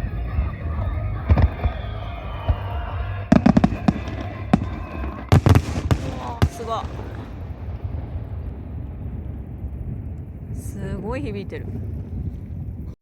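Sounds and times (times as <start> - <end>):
fireworks bangs: 0.0 - 12.9
fireworks crackling: 0.0 - 13.0.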